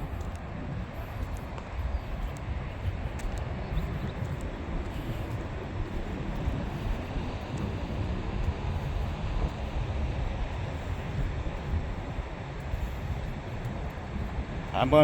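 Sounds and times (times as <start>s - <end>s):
freeway traffic rumble: 0.0s - 15.0s.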